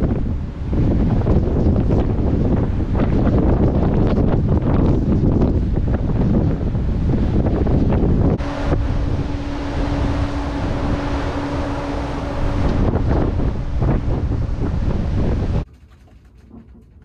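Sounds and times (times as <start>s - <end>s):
waves breaking: 0.0s - 15.7s
wind hitting microphone: 0.0s - 15.7s
low hum: 0.0s - 17.0s.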